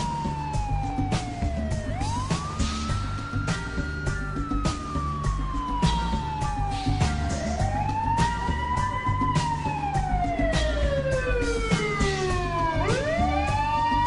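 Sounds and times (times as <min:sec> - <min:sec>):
music with bass and steady beat: 0:00.0 - 0:14.0
siren wailing: 0:00.0 - 0:14.0.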